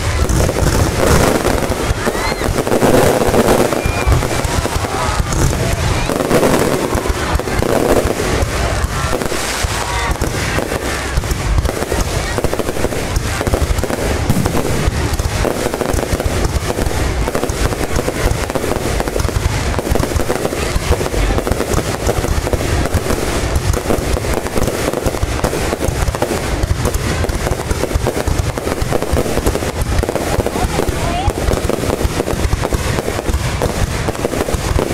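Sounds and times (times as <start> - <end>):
fireworks bangs: 0.0 - 34.9.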